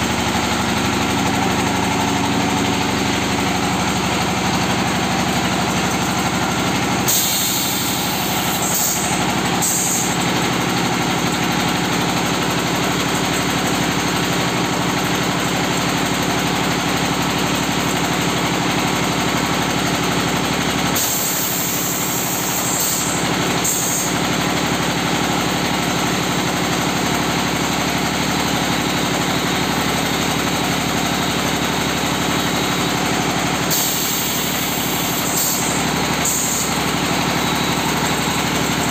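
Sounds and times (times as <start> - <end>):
brick press machine running: 0.0 - 38.9.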